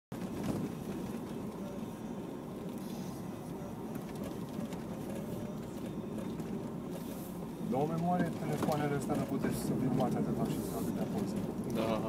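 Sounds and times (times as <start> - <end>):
car engine and tyres rumbling: 0.1 - 12.0.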